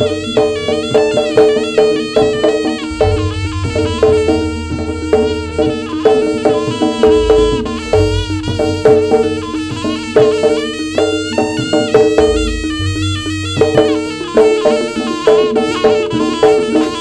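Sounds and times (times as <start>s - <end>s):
gong chimes and drums: 0.0s - 16.8s
reedy wind instrument melody: 0.0s - 17.0s.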